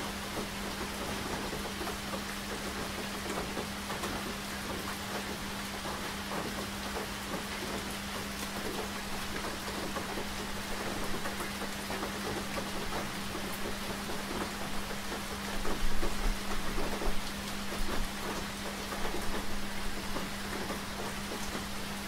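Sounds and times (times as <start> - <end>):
rain drops ticking on a surface: 0.0 - 22.0.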